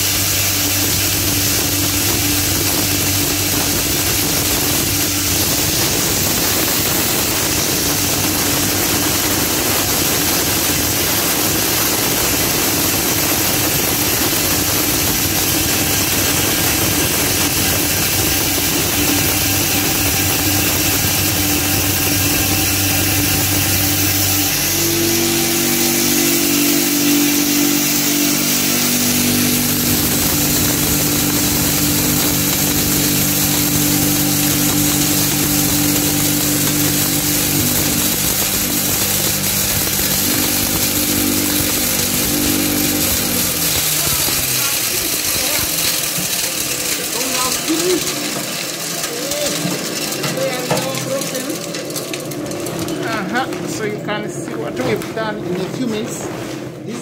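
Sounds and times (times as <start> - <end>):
crushing machine humming: 0.0 - 57.0
grinding of maize kernels: 0.0 - 57.0.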